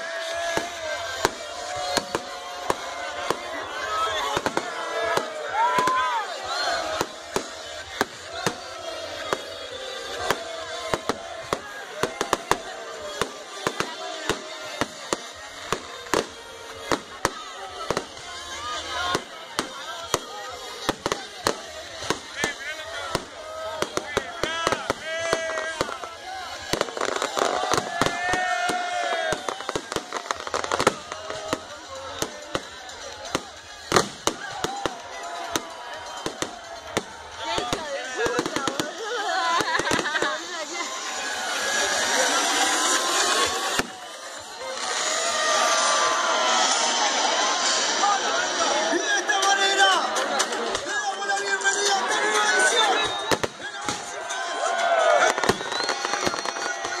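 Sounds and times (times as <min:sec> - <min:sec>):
fireworks banging: 0:00.0 - 0:54.5, 0:55.1 - 0:57.0.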